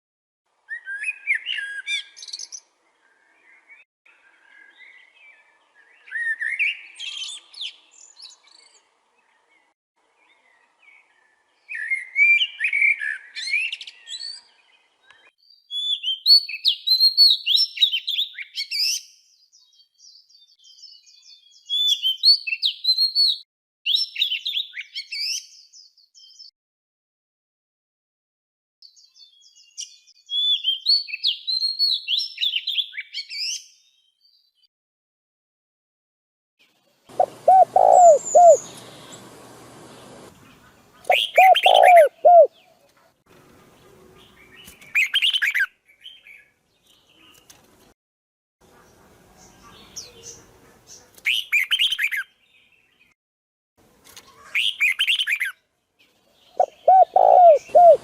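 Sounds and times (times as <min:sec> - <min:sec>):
songbirds chirping and whistling: 0:00.7 - 0:26.5, 0:28.8 - 0:34.7, 0:37.1 - 0:47.6, 0:48.7 - 0:53.2, 0:54.1 - 0:58.0.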